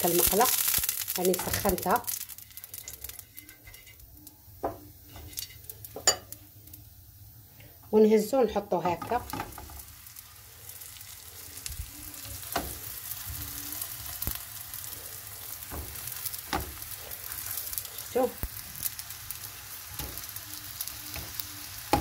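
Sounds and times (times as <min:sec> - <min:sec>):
dough sizzling in hot oil: 0:00.0 - 0:22.0.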